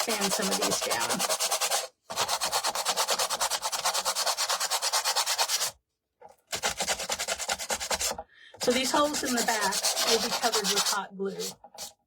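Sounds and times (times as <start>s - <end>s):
sanding block scrubbing: 0.0s - 5.8s, 6.5s - 12.0s.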